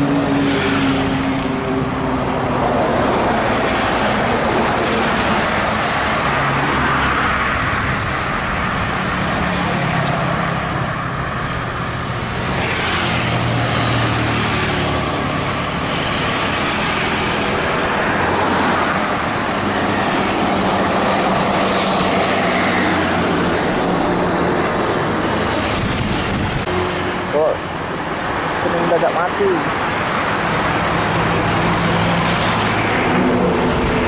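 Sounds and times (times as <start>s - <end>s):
bus diesel engines pulling away: 0.0s - 34.0s
motorcycles passing: 0.0s - 34.0s
steady traffic drone: 0.0s - 34.0s.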